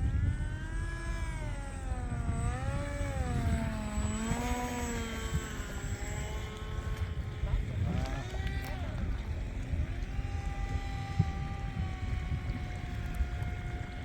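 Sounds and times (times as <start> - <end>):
electric propeller whining: 0.0 - 14.0
wind noise on microphone: 0.0 - 14.0.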